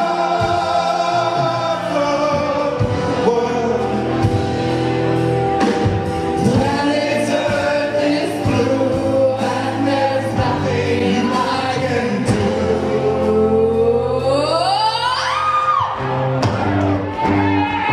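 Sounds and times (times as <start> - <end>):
singers holding notes: 0.0 - 16.4
drums and bass: 0.0 - 17.9.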